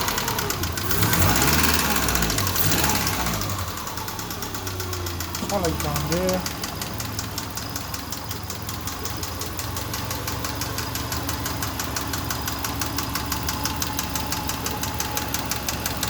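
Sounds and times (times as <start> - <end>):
car engine idling with ticking knock: 0.0 - 16.0.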